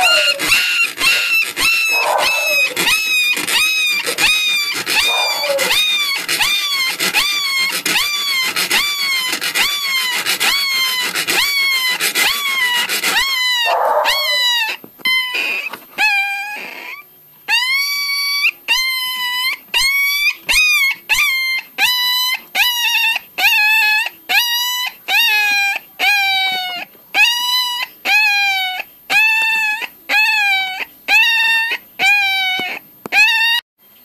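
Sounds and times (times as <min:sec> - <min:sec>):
puppy yelping cries: 0:00.0 - 0:33.6.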